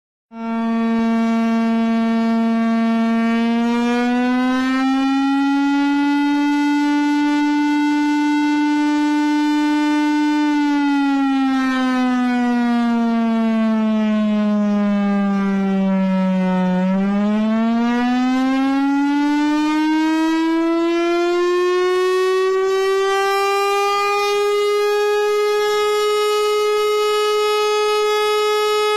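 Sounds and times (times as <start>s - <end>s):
warning siren wailing: 0.3s - 28.9s.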